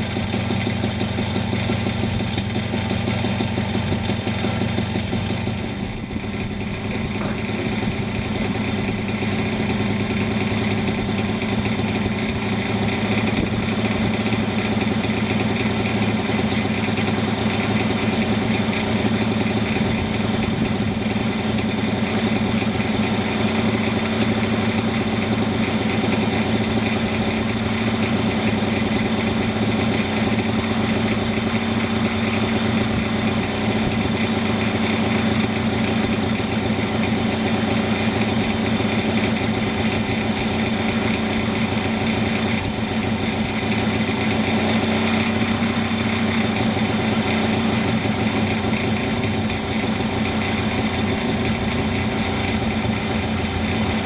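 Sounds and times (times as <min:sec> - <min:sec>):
moped engine idling: 0:00.0 - 0:54.0.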